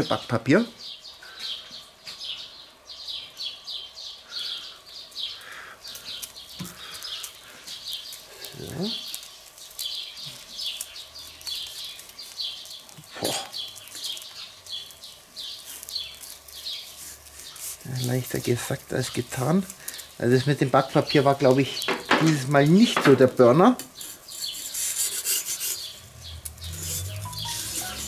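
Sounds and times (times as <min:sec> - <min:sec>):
small bird chirping: 0:00.8 - 0:22.6, 0:23.9 - 0:28.0.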